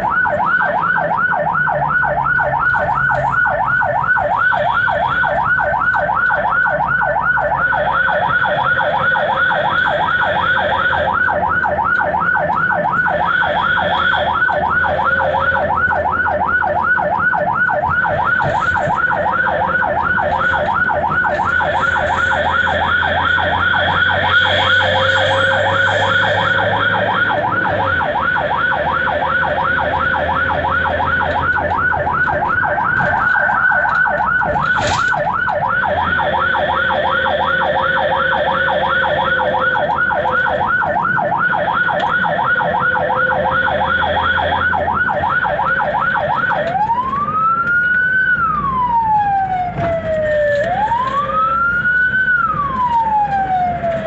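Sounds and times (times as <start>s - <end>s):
ambulance siren yelping: 0.0s - 54.0s.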